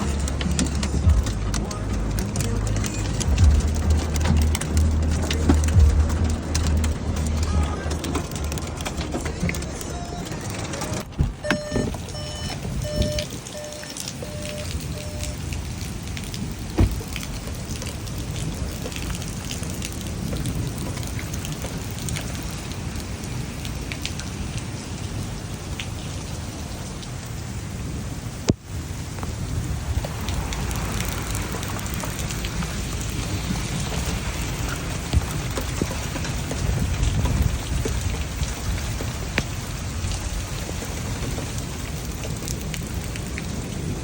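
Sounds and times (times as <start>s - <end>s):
heavy rain pouring: 0.0s - 44.0s
low rumble of wind: 0.0s - 44.0s
rain and hail ticks: 0.0s - 44.0s.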